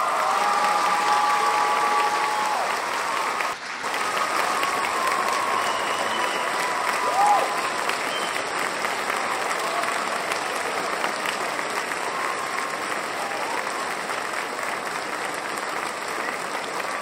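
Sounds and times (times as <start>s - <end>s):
audience applause: 0.0s - 17.0s.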